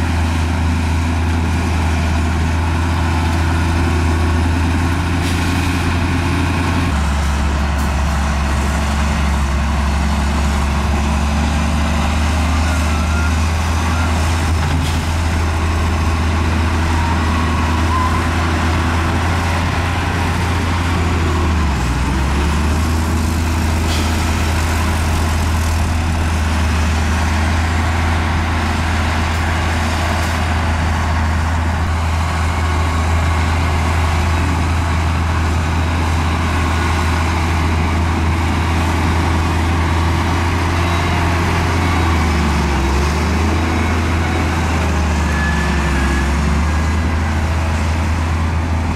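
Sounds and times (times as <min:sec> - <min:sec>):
heavy diesel engine humming: 0:00.0 - 0:48.9.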